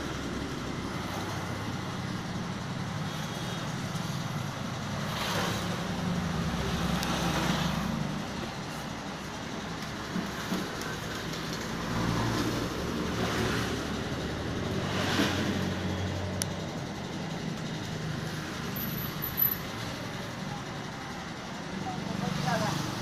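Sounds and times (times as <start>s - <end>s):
low engine rumble: 0.0s - 23.0s
road traffic noise: 0.0s - 23.0s.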